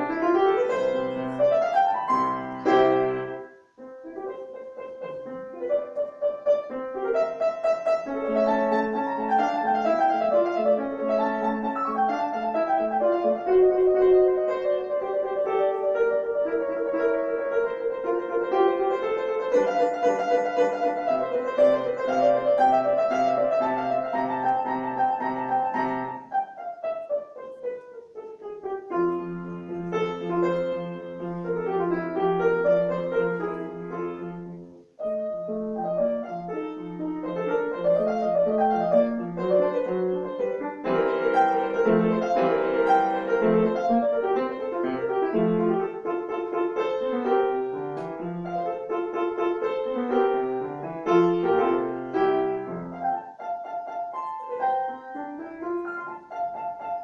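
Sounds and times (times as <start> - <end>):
solo grand piano classical piece: 0.0 - 57.0.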